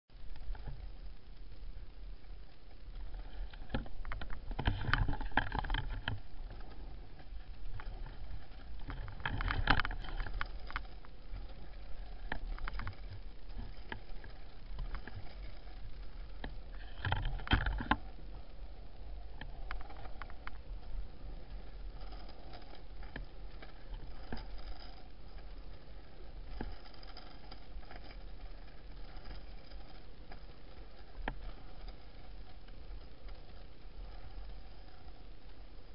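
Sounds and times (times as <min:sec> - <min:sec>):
wheels rolling on asphalt: 0:00.1 - 0:35.9
scraping and clattering clicks: 0:02.6 - 0:18.5, 0:19.3 - 0:35.6.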